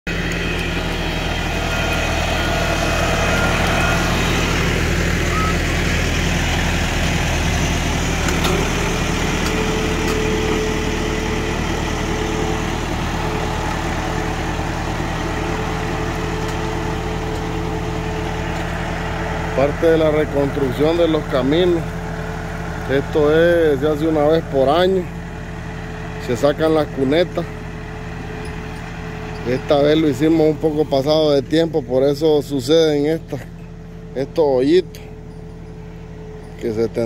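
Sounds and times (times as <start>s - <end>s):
tractor diesel engine under load: 0.0s - 37.0s.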